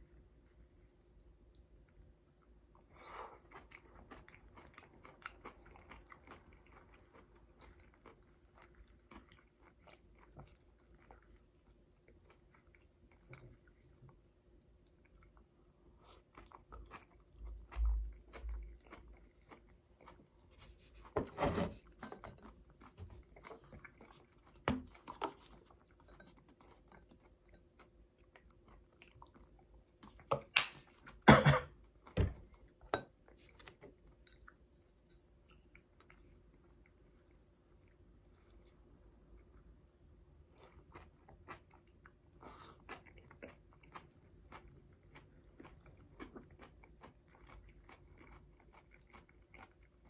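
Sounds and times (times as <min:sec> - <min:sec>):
wet chewing: 0:01.5 - 0:31.2, 0:31.8 - 0:50.0.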